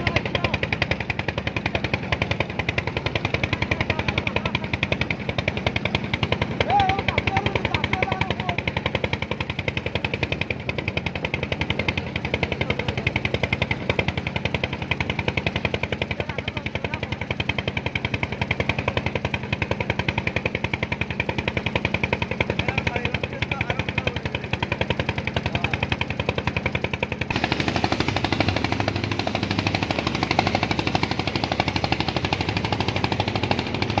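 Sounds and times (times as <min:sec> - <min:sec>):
small engine chugging: 0:00.0 - 0:34.0.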